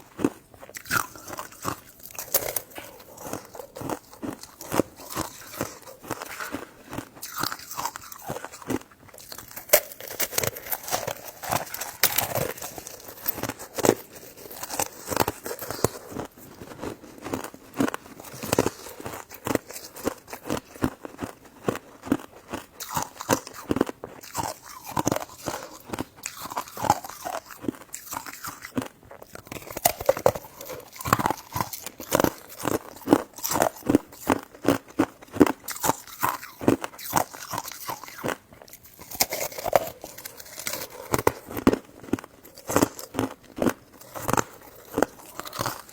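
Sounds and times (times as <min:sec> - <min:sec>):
person chewing and crunching: 0:00.0 - 0:45.9.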